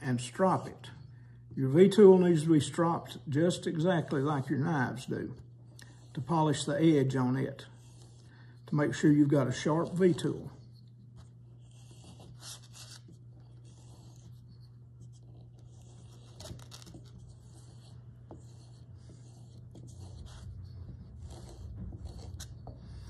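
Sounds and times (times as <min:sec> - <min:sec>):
steady low hum: 0:00.0 - 0:23.0
carving tool rubbing on strop: 0:02.0 - 0:23.0.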